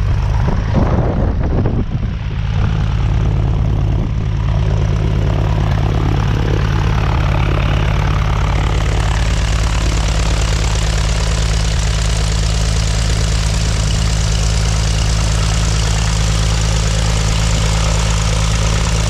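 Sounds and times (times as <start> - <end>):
aircraft engine idling: 0.0 - 19.0.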